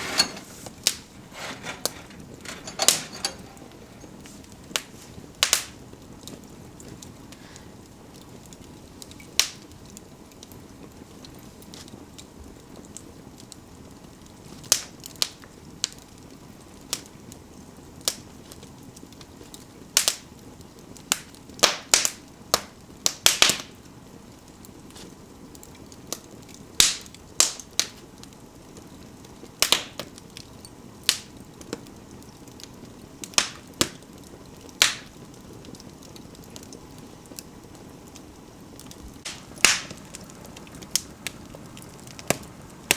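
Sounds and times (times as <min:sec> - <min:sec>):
soft hiss of burning: 0:00.0 - 0:42.9
wood fire crackling and popping: 0:00.0 - 0:42.9.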